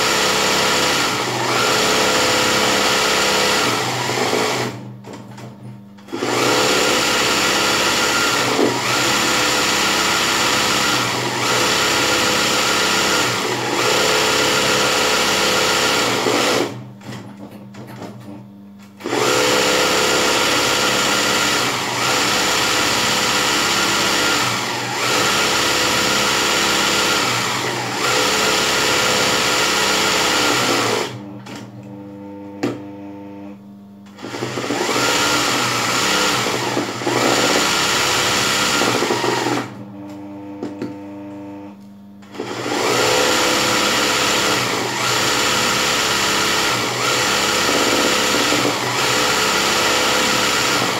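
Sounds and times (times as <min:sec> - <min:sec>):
sewing machine stitching: 0:00.0 - 0:17.2, 0:19.0 - 0:31.7, 0:34.1 - 0:39.8, 0:42.2 - 0:50.9.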